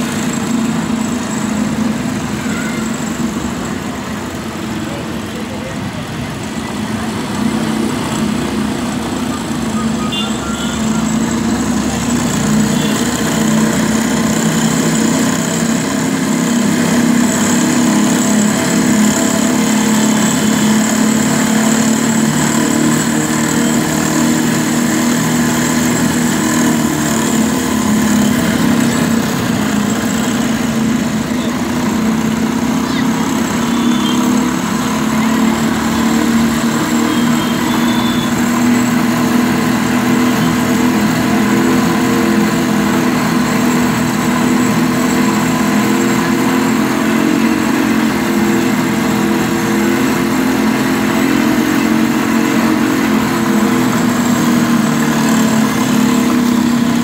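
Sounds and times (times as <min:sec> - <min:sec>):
cotton candy machine drone: 0:00.0 - 0:57.0.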